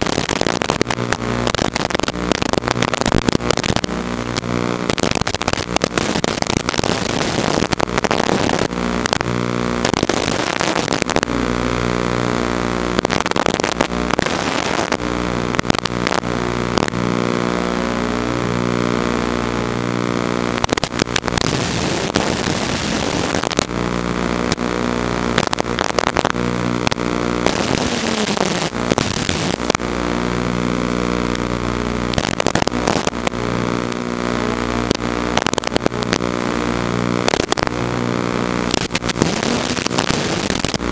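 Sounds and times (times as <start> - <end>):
hissing radio static: 0.0 - 40.9
steady electrical buzz: 0.0 - 40.9.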